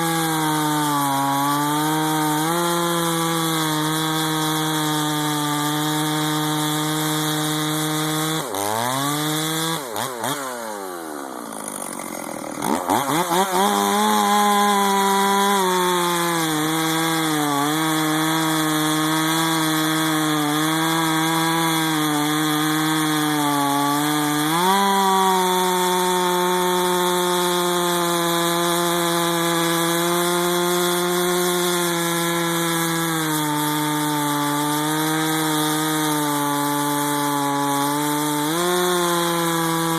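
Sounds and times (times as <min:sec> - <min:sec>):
chainsaw revving under load: 0:00.0 - 0:39.9.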